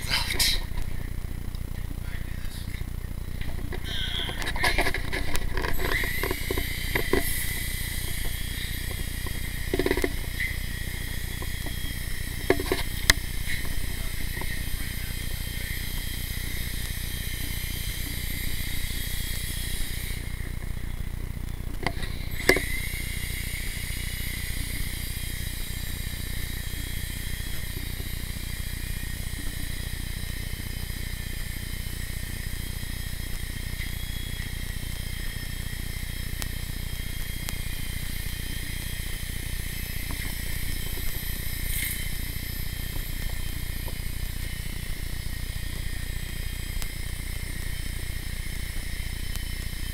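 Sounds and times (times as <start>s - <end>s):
helicopter rotors whining: 0.0s - 49.9s.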